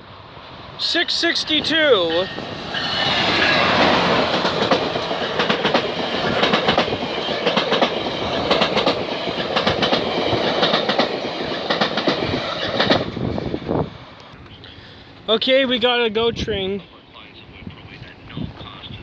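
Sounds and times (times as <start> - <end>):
train wheels rolling: 0.0 - 16.4
wheels clicking over rail joints: 0.2 - 16.2.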